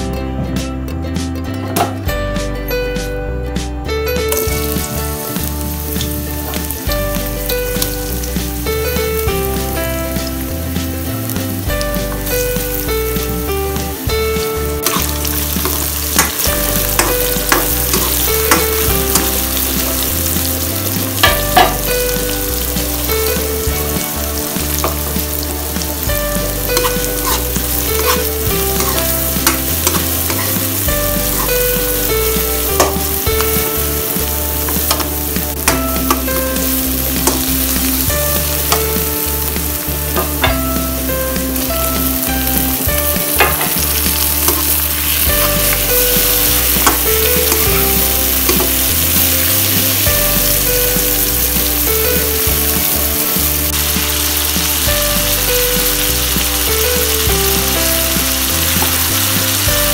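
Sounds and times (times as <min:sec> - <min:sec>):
onions sizzling in oil: 0:04.2 - 0:59.9
spatula scraping and knocking pan: 0:04.2 - 0:59.9.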